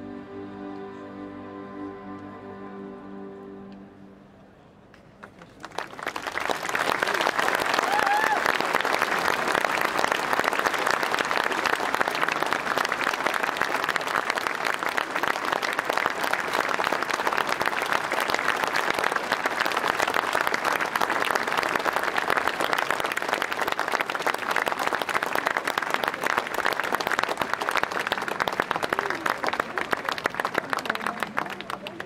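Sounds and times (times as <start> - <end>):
audience applauding: 5.2 - 32.0.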